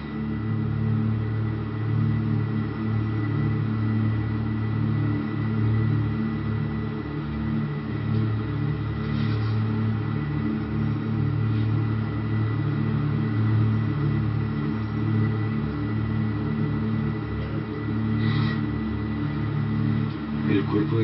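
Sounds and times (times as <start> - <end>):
high steady whine: 0.0 - 21.0
low hum: 0.0 - 21.0.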